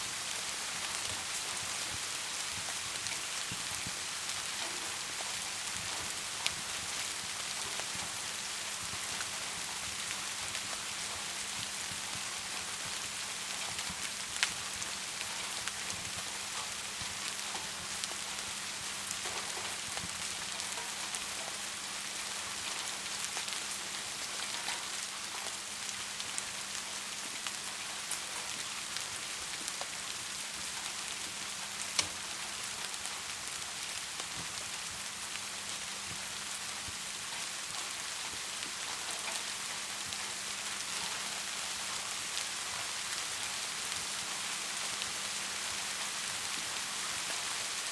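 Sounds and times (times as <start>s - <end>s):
rain hiss: 0.0s - 47.9s
wood fire crackling: 0.1s - 47.9s.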